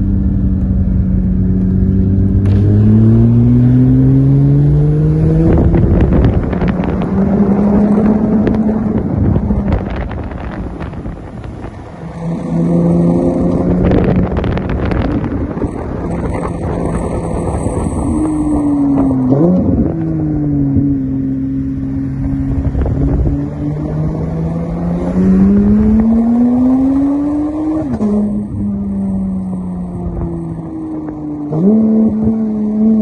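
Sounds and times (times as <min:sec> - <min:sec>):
car engine accelerating: 0:00.0 - 0:33.0
wind and road noise: 0:00.0 - 0:33.0.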